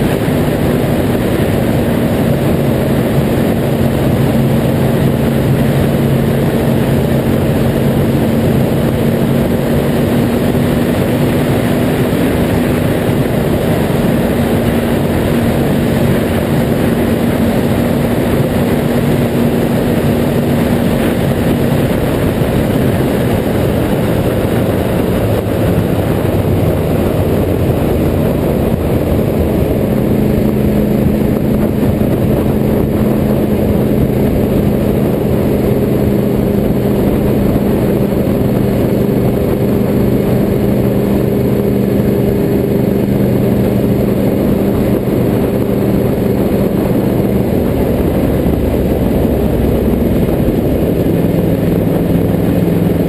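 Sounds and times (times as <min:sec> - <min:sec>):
loud wind rush: 0:00.0 - 0:53.0
motorcycle engine cruising: 0:00.0 - 0:53.0.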